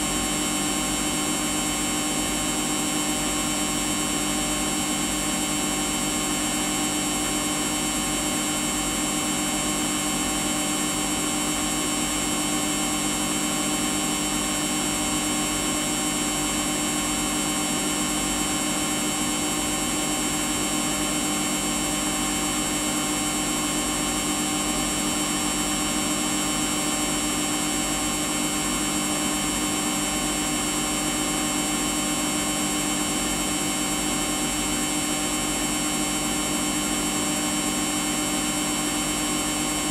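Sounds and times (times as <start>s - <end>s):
washing machine humming and whining: 0.0s - 39.9s.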